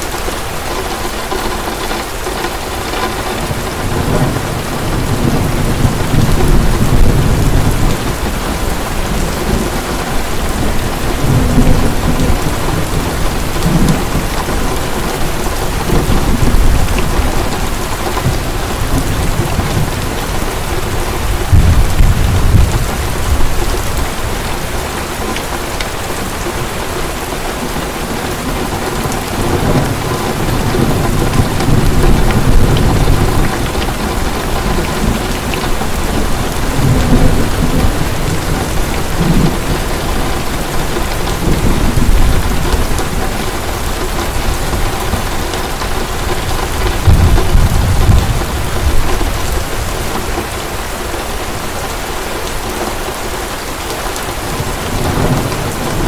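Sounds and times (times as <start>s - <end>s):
heavy rain falling: 0.0s - 56.0s
low rolls of thunder: 3.1s - 25.0s, 26.1s - 50.5s, 54.4s - 56.0s.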